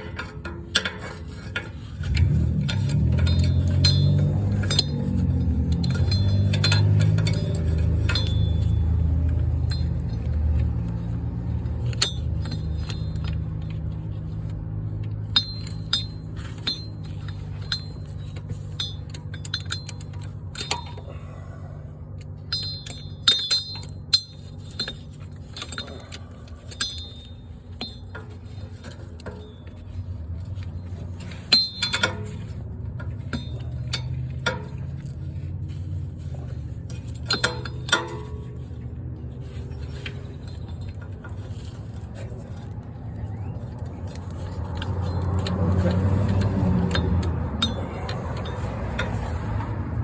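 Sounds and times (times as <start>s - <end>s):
metal tools clinking: 0.0s - 50.0s.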